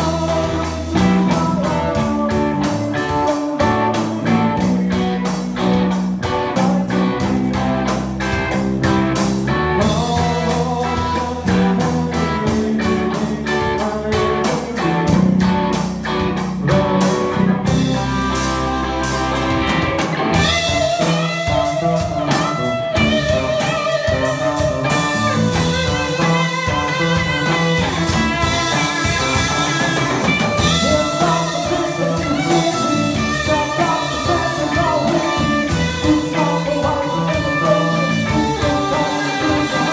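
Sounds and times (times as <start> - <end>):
drum kit beat: 0.0 - 39.9
electric guitar: 0.0 - 39.9
live band playing: 0.0 - 39.9.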